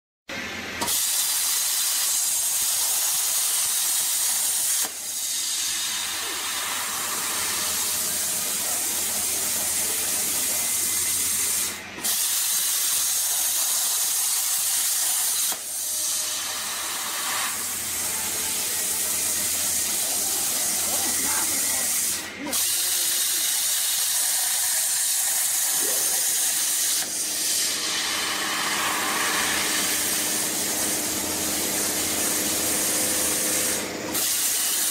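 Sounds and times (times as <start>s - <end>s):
plasma arc hissing: 0.8s - 34.9s.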